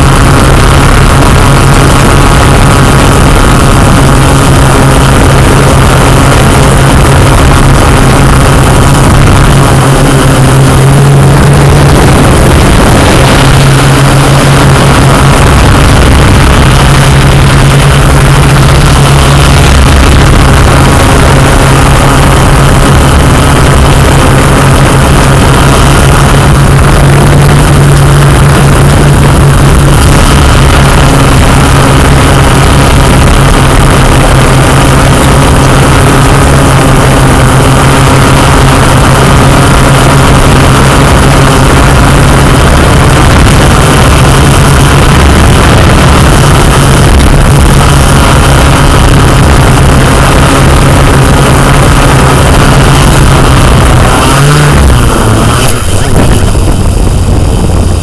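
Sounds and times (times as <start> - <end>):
drone propellers whirring: 0.0 - 58.0.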